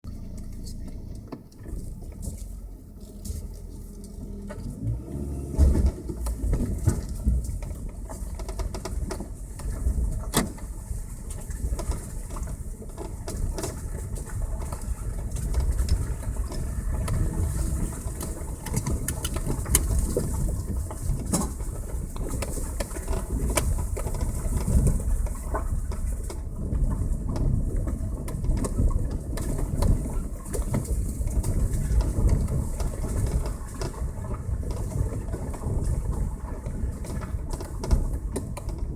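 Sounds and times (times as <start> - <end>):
car driving low rumble: 0.0 - 38.9.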